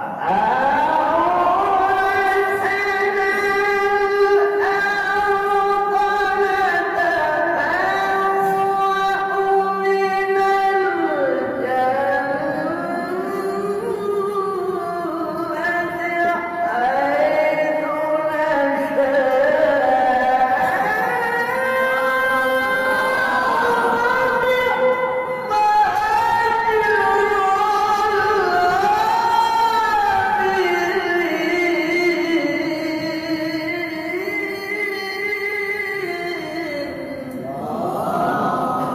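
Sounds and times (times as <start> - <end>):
man reciting melodically: 0.0 - 38.9.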